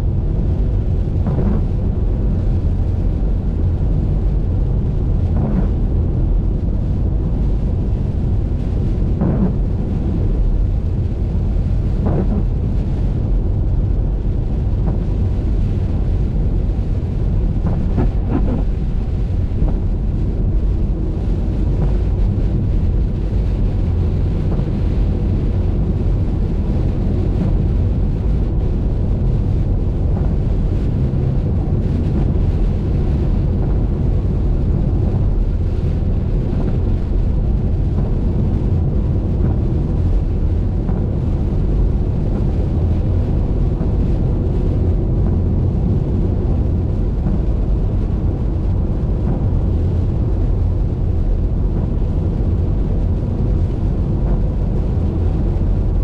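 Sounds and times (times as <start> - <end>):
wind noise: 0.0 - 56.0
car driving on wet highway: 0.1 - 56.0.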